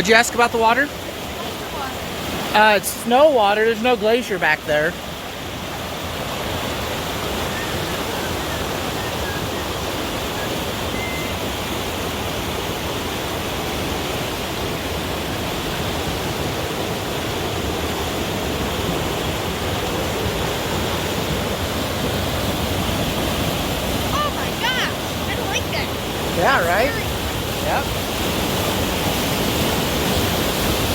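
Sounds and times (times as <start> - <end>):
creek water rushing: 0.0 - 30.9.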